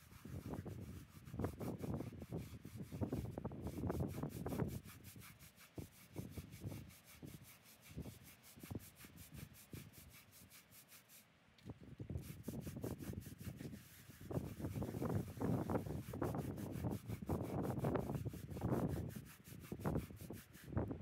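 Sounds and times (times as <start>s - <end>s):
brush scrubbing stone: 0.0s - 11.3s, 12.1s - 20.9s.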